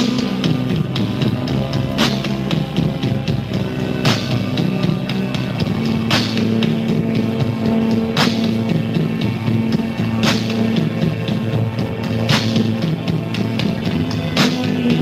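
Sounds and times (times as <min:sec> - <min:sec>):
drum and cymbal hits: 0:00.0 - 0:15.0.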